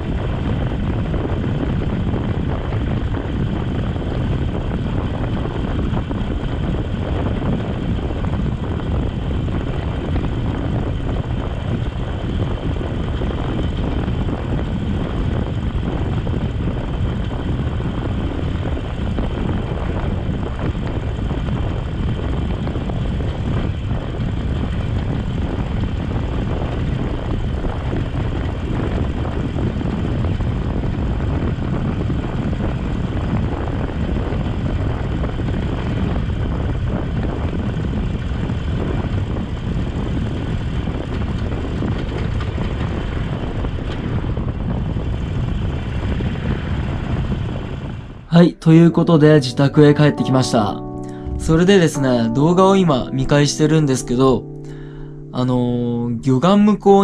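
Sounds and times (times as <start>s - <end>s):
wind and road noise: 0.0s - 48.3s.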